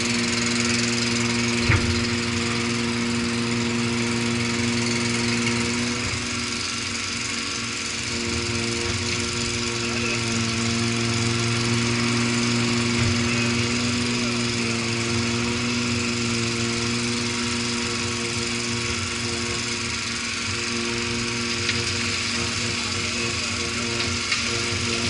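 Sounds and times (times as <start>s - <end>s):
machine engine humming: 0.0s - 25.0s.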